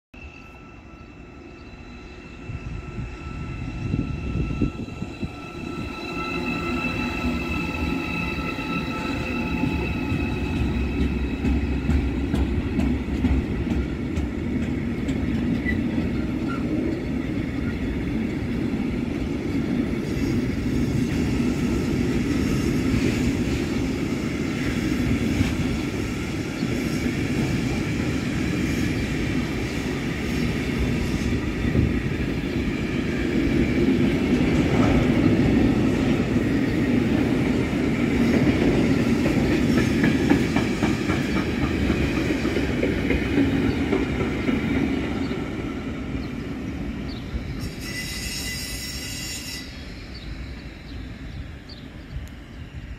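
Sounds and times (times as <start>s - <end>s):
train wheels rumbling on rail: 1.0s - 52.9s.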